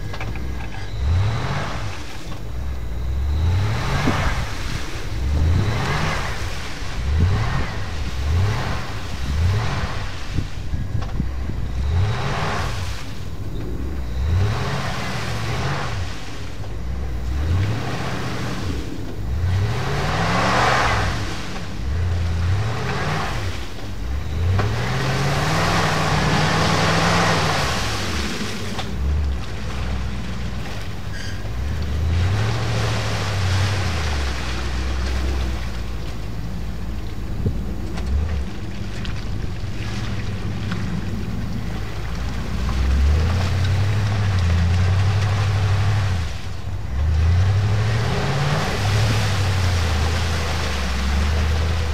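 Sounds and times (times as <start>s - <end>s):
churning water and breaking ice: 0.0s - 51.9s
engine revving hard: 0.9s - 2.3s, 3.0s - 10.5s, 11.7s - 30.4s, 31.6s - 35.8s, 42.1s - 51.9s.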